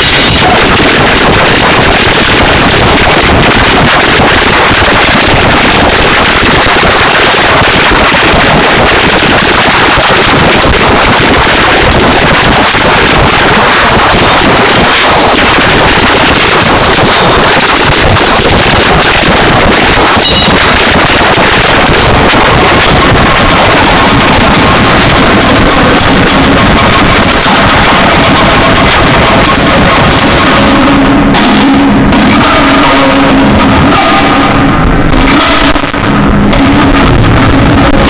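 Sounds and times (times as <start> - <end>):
harsh distorted static noise music: 0.0 - 38.0.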